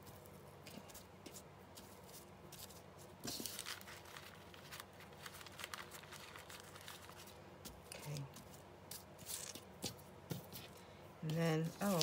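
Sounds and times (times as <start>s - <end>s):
paper rustling and crinkling: 1.7s - 10.8s, 11.4s - 12.0s.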